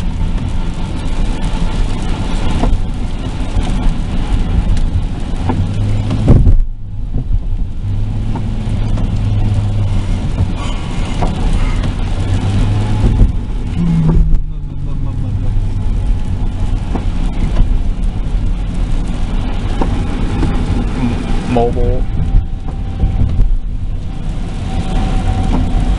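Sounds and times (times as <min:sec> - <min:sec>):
car engine and tyre rumble: 0:00.0 - 0:25.9
low hum: 0:05.0 - 0:25.9.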